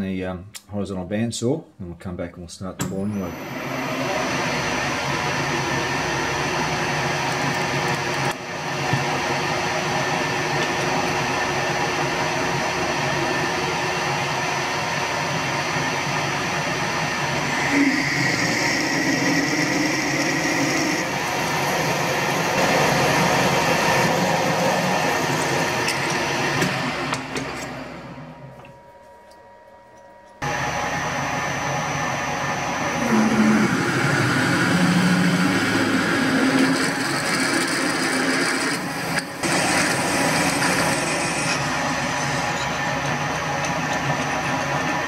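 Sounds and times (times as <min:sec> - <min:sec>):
lathe drilling metal: 0:02.9 - 0:28.6, 0:30.4 - 0:45.0.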